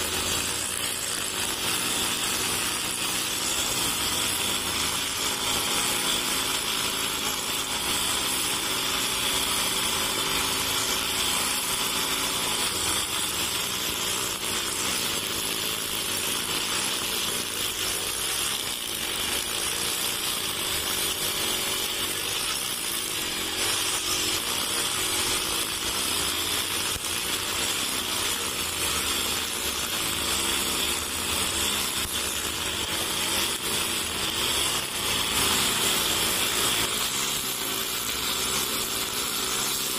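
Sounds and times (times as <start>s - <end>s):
brush cutter running: 0.0s - 39.9s
trimmer line cutting grass: 0.0s - 39.9s.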